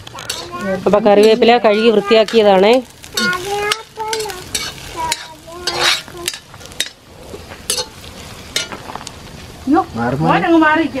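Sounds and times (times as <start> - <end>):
spoon scraping against pan: 0.0 - 9.0
onion sizzling in hot oil: 0.0 - 11.0.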